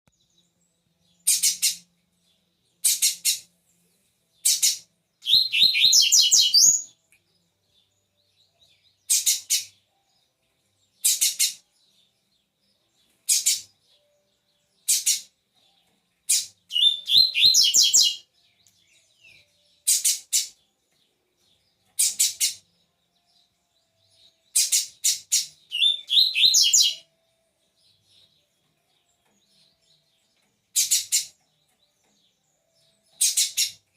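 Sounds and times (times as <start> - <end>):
bird singing high phrases: 0.1 - 33.9.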